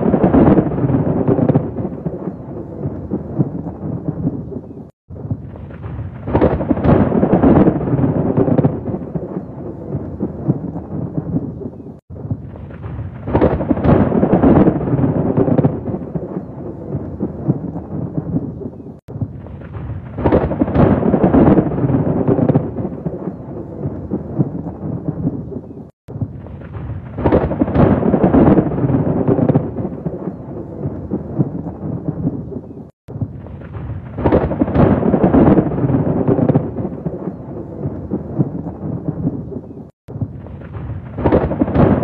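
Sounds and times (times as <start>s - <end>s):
heavy rain: 0.0s - 42.0s
thunder rolling: 0.0s - 42.0s.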